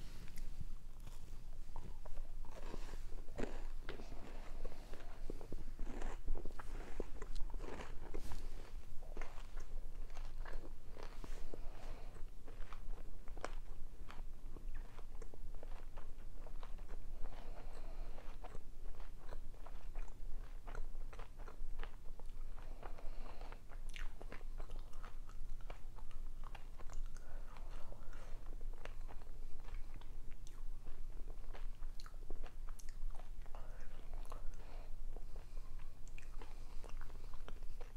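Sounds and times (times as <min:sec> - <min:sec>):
person chewing food: 0:00.0 - 0:37.9.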